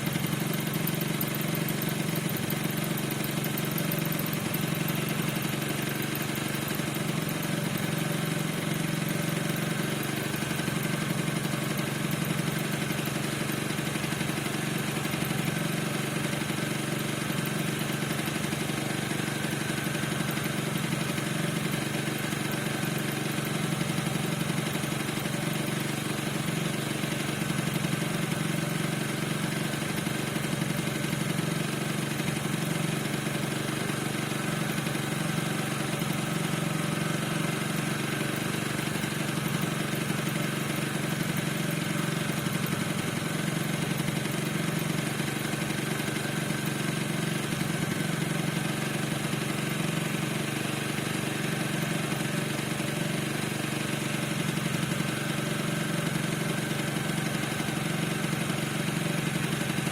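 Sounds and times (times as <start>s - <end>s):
scooter engine idling: 0.0s - 59.9s.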